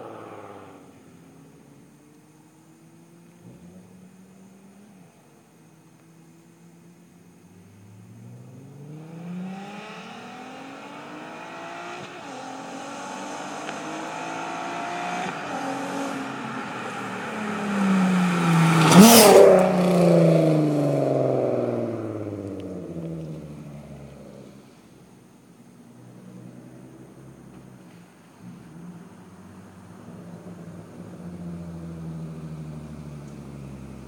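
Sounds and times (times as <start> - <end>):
car engine accelerating past: 0.0 - 5.2, 7.4 - 24.9, 25.9 - 34.0.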